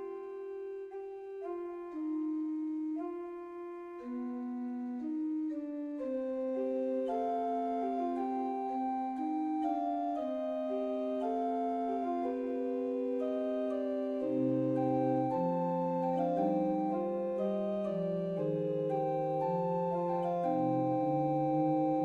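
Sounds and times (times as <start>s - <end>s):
organ-like keyboard chords: 0.0s - 22.0s.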